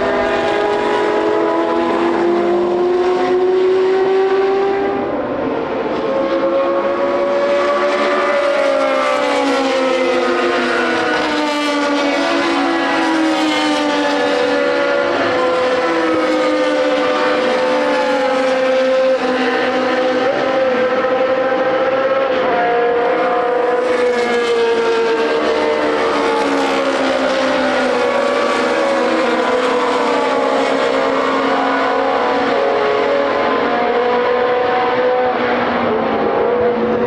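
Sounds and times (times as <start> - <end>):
racing car engines revving: 0.0 - 37.0.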